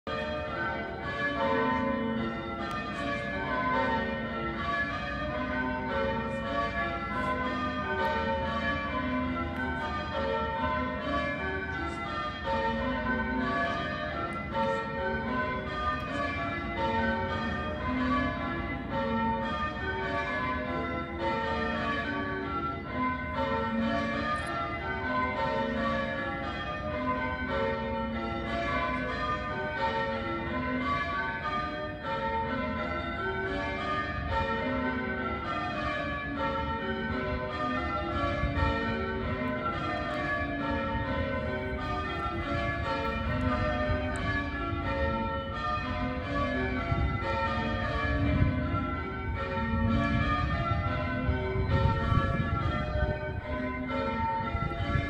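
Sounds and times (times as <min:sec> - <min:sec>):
church bells ringing: 0:00.1 - 0:55.0.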